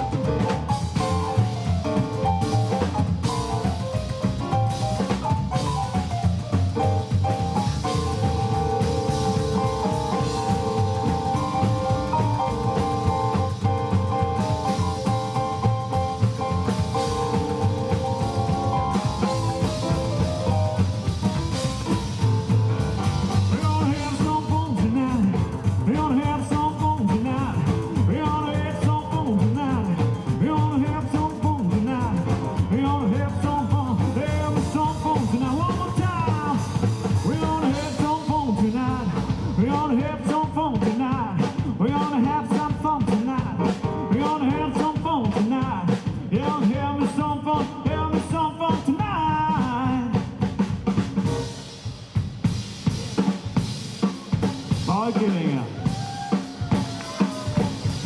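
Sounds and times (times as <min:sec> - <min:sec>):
live rock and roll band: 0:00.0 - 0:58.0.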